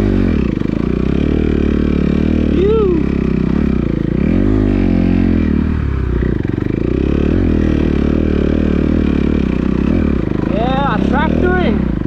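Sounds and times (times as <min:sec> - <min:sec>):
motocross engine revving: 0:00.0 - 0:12.0.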